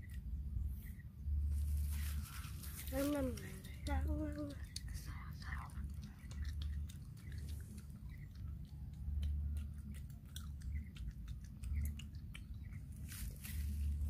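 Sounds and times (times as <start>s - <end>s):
low rumble: 0.0s - 14.0s
child chewing crunchy food: 1.7s - 14.0s.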